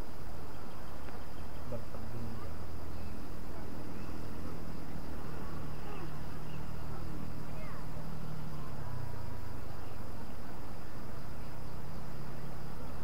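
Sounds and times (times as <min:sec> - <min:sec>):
insects chirring: 0:00.0 - 0:13.0
low steady hum: 0:00.0 - 0:13.0.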